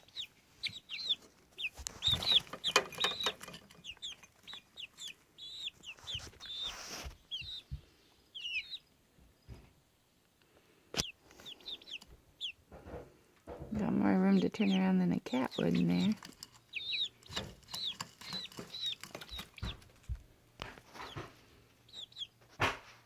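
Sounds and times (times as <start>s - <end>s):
baby chickens peeping: 0.0s - 22.8s.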